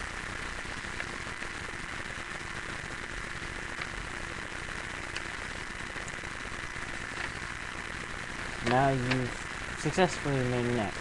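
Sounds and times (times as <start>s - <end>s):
microphone crackling hiss: 0.0s - 11.0s.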